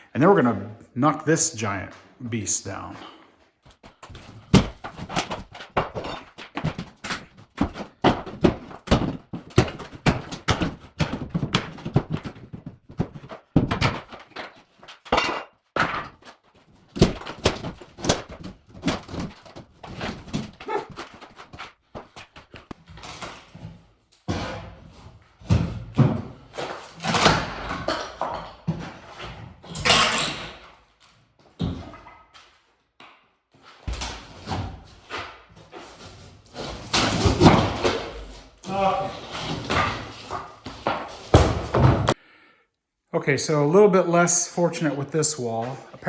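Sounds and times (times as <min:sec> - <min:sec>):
wall paneling breaking: 0:03.0 - 0:32.7, 0:33.6 - 0:42.3.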